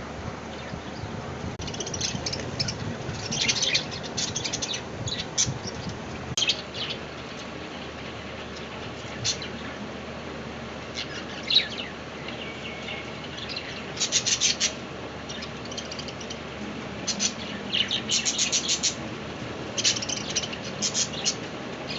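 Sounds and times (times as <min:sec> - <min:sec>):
steady background hiss: 0:00.0 - 0:21.9.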